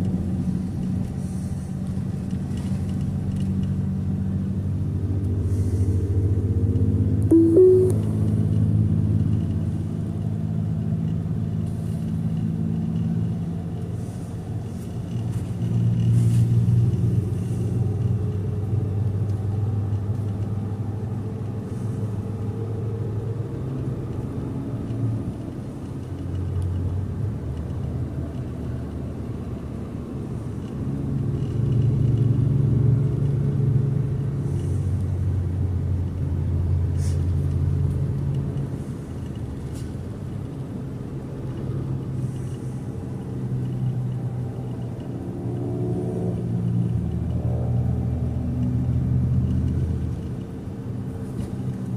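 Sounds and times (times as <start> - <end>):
car engine and road drone: 0.0 - 51.9.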